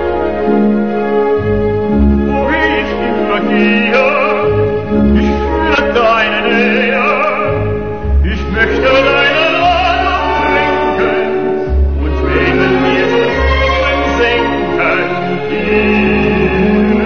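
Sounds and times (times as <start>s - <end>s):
instrumental accompaniment with bass: 0.0s - 17.0s
operatic singing with vibrato: 2.1s - 17.0s.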